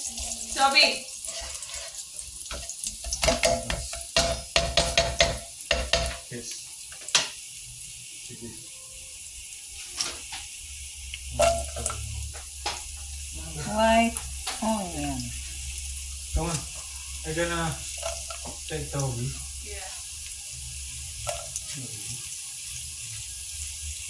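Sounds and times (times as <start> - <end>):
garlic sizzling in hot oil: 0.0 - 24.0.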